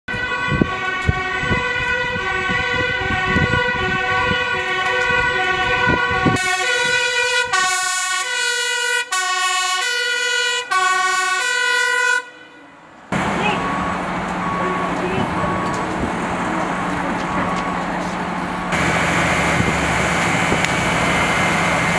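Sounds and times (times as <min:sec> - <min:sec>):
fire engine two-tone siren: 0:00.1 - 0:21.9.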